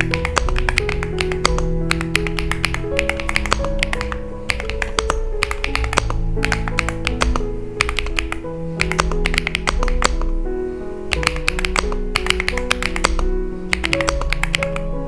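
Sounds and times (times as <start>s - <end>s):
mechanical keyboard typing: 0.0s - 10.4s, 11.1s - 14.9s
background music with held notes: 0.0s - 15.0s.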